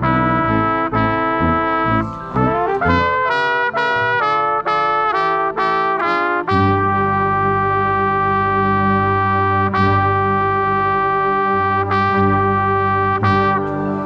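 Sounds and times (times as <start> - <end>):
marching band brass: 0.0 - 14.0
trumpet playing short notes: 0.0 - 14.0.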